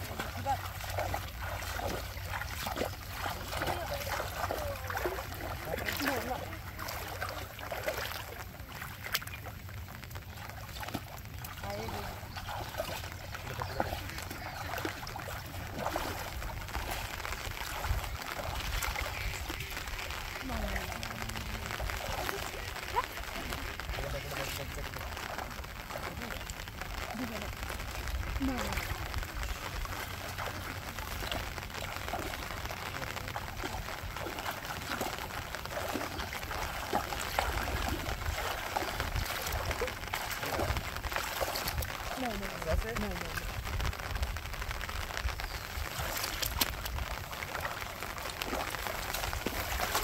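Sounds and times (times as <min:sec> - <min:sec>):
water splashing and sloshing: 0:00.0 - 0:50.0.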